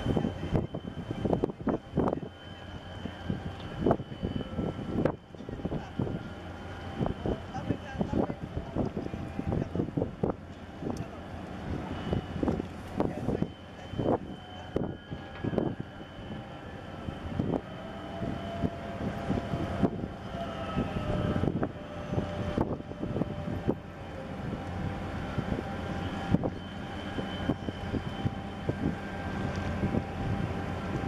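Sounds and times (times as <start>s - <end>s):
marine engine drone: 0.0s - 31.0s
wind: 0.0s - 31.0s.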